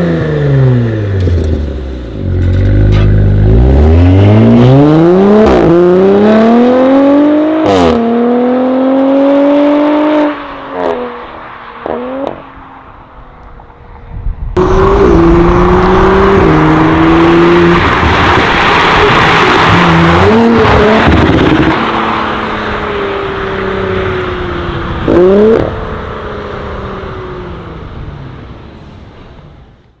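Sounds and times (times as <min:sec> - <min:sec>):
car engine accelerating hard: 0:00.0 - 0:12.5, 0:14.6 - 0:28.8.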